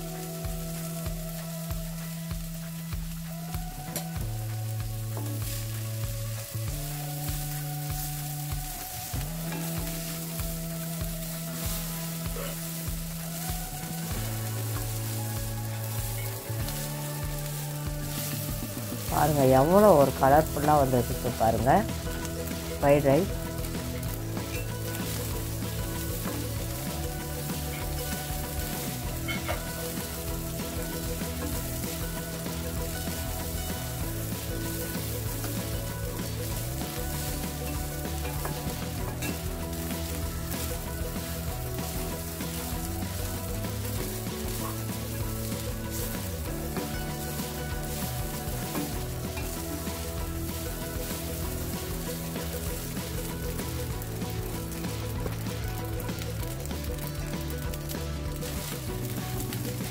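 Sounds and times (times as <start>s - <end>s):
background music with beat: 0.0s - 59.9s
rice sizzling in pan: 0.0s - 59.9s
spatula stirring rice: 3.9s - 54.0s.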